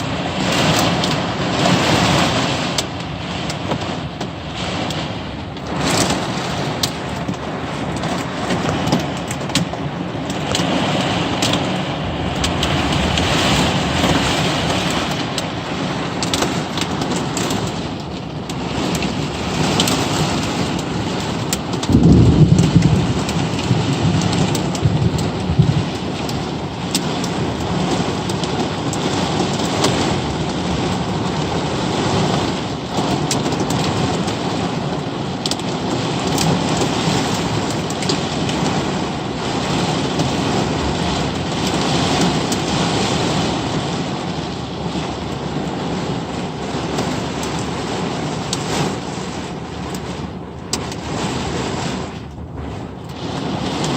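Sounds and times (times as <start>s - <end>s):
heavy rain: 0.0s - 53.9s
sharp raindrop ticks: 0.0s - 53.9s
thunder clap and rumble: 0.0s - 53.9s.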